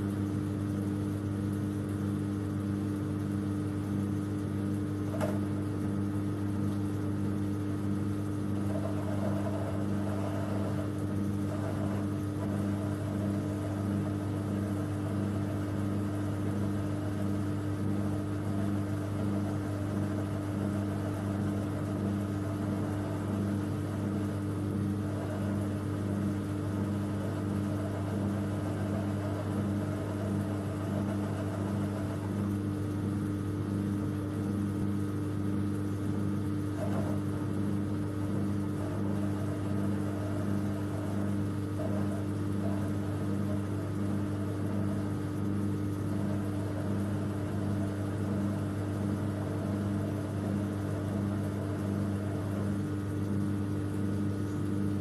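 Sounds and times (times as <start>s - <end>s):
lathe running with pulsing hum: 0.0s - 55.0s.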